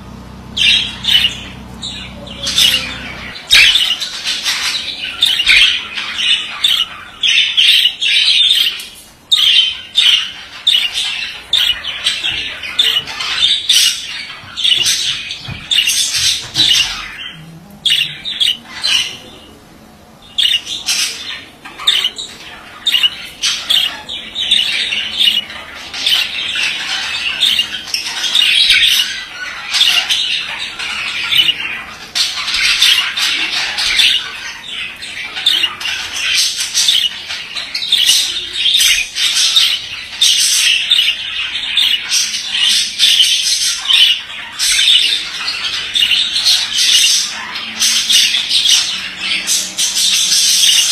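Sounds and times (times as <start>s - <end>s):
budgerigar warbling and chattering: 0.0s - 50.9s.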